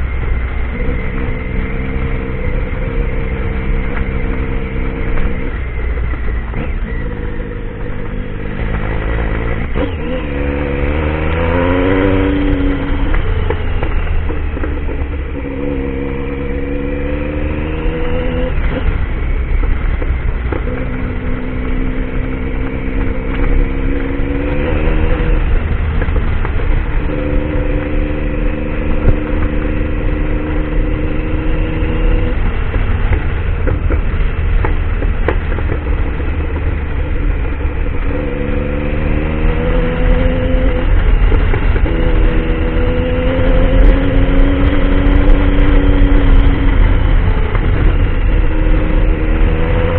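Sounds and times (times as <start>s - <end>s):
steady low rumble: 0.0s - 49.9s.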